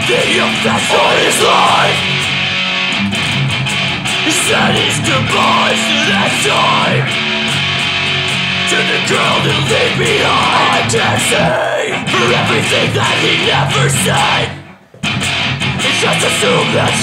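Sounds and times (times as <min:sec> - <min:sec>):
bass and drums: 0:00.0 - 0:17.0
electric guitars strumming: 0:00.0 - 0:17.0.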